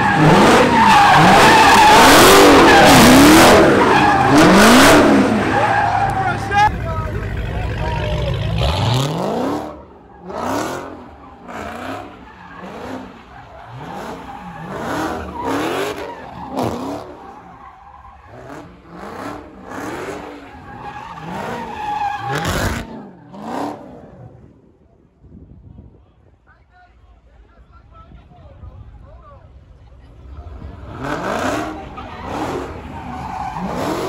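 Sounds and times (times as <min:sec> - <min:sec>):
tyres squealing and skidding: 0:00.0 - 0:24.3, 0:30.2 - 0:34.0
car engine revving: 0:00.0 - 0:24.4, 0:30.2 - 0:34.0.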